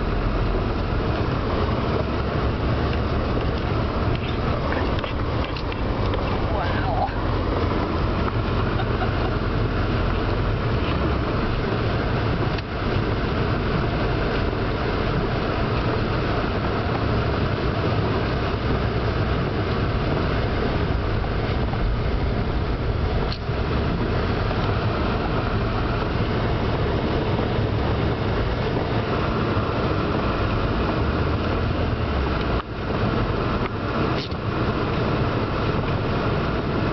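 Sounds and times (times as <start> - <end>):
vehicle driving through snow: 0.0 - 36.9.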